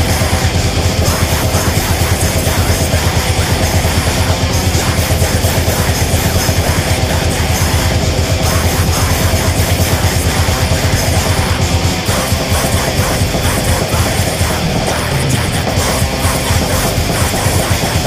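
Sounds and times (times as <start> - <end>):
heavy metal music: 0.0 - 18.0.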